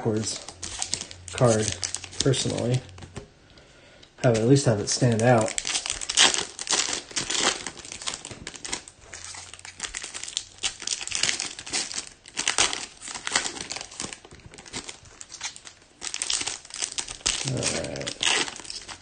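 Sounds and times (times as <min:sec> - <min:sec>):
card pack wrappers crinkling and tearing: 0:00.0 - 0:03.2, 0:04.2 - 0:19.0.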